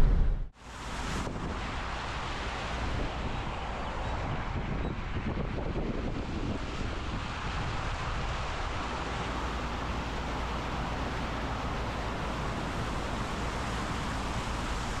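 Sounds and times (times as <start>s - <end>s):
water spray rushing from wheel: 0.6s - 15.0s.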